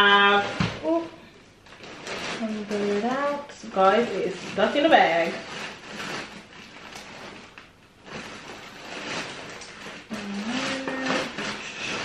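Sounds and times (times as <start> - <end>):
bag rustling and crinkling: 0.0 - 12.0.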